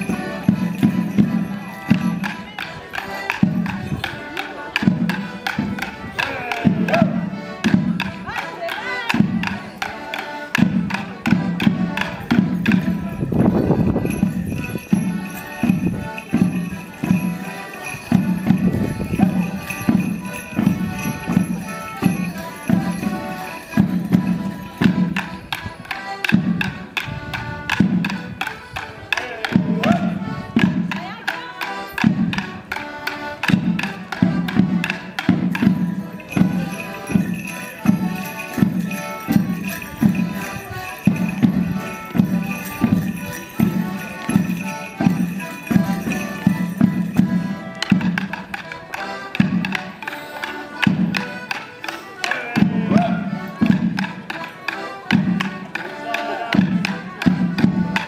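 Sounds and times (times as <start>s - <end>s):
accordion: 0.0s - 58.0s.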